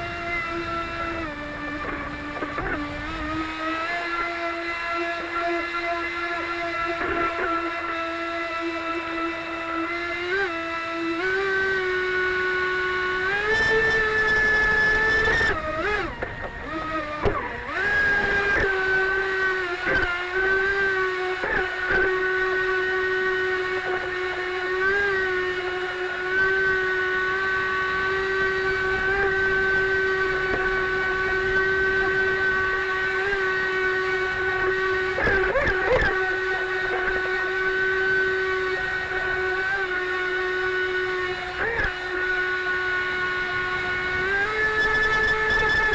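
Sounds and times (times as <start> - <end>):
high-pitched boat motor whine: 0.0 - 45.9.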